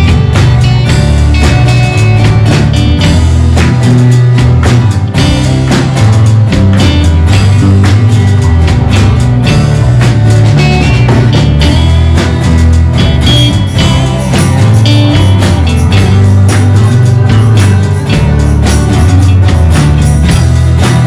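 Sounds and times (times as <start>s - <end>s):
drum kit beat: 0.0s - 21.0s
guitar lead line: 0.0s - 21.0s
held bass notes: 0.0s - 21.0s
live band playing: 0.0s - 21.0s.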